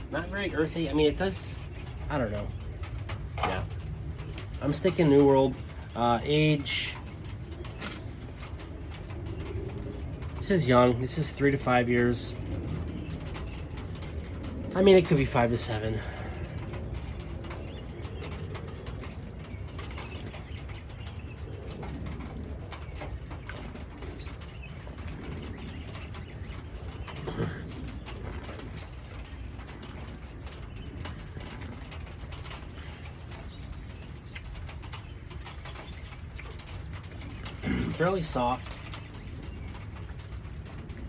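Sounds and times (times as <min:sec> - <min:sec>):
birds calling: 0:00.0 - 0:41.0
steady low rumble: 0:00.0 - 0:41.0.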